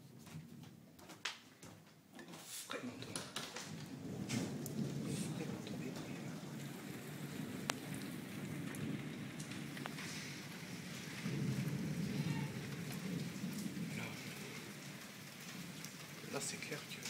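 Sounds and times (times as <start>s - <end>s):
steady rain: 0.0s - 17.0s
low rumble of thunder: 2.8s - 17.0s.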